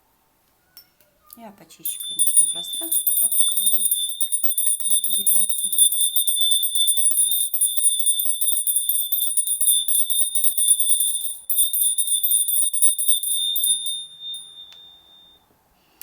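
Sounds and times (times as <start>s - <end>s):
small hand bell ringing rapidly: 1.8s - 15.4s.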